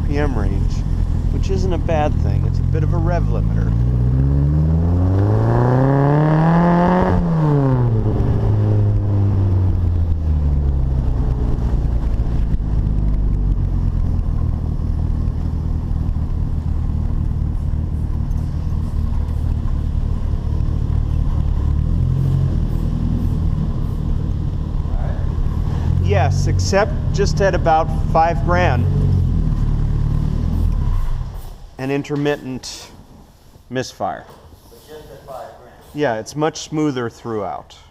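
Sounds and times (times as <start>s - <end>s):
car engine revving: 0.0s - 31.8s.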